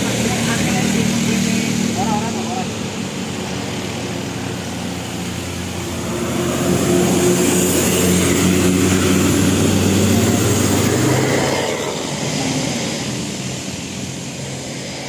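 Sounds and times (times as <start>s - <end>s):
bus engine passing: 0.0s - 15.0s.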